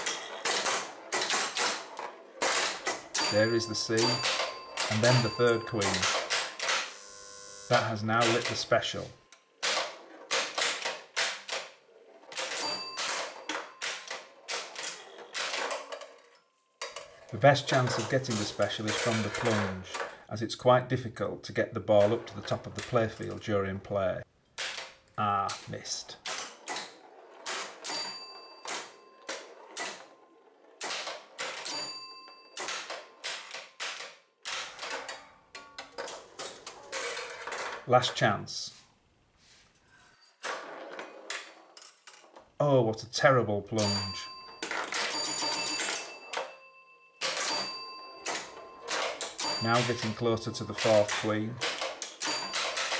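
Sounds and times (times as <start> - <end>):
pinball machine clacks and rattles: 0.0 - 7.0, 7.7 - 20.3, 21.7 - 23.6, 24.6 - 38.1, 43.8 - 52.9.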